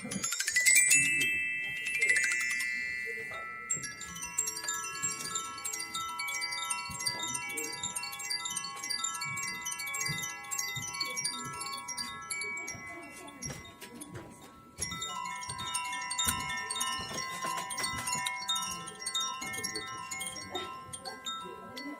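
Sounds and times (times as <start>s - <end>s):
wind chimes ringing: 0.0s - 21.9s.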